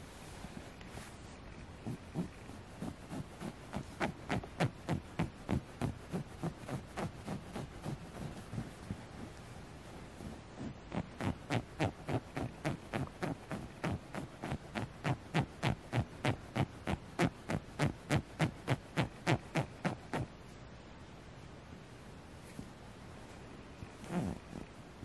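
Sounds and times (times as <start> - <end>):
fingernails scratching plush fabric: 0.0 - 9.4, 10.2 - 20.3, 24.0 - 24.7.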